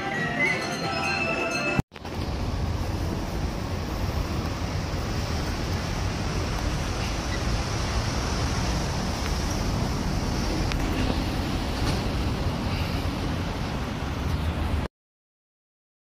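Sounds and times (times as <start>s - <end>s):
low rumble of traffic: 2.0s - 14.9s.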